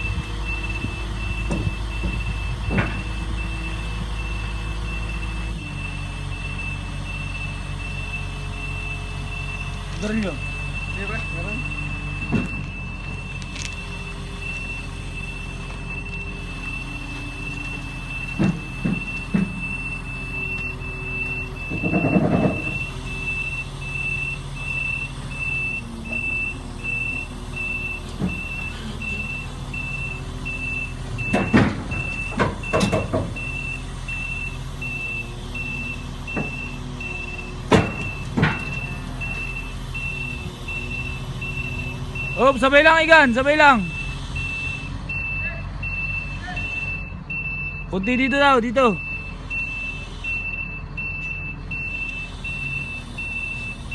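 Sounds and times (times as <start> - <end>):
diesel engine running: 0.0 - 53.9
travel alarm beeping: 0.0 - 53.9.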